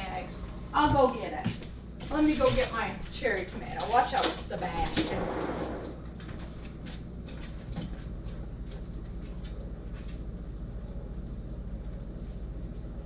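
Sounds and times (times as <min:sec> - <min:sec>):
kitchen hum: 0:00.0 - 0:13.0.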